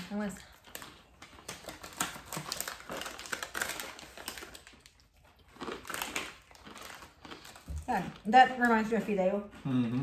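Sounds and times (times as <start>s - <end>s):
crunchy snacks being chewed: 0.3s - 10.0s.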